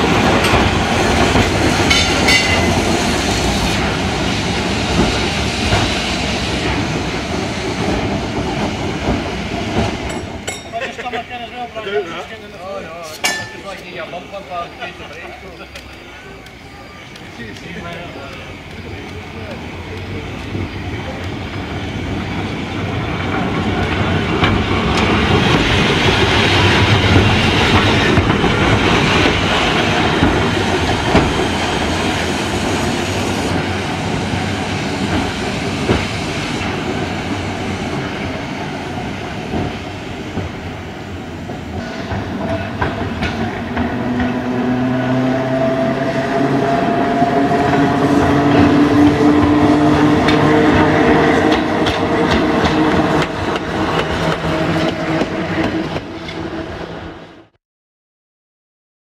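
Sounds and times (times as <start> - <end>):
tram wheels clattering on rails: 0.0 - 57.3.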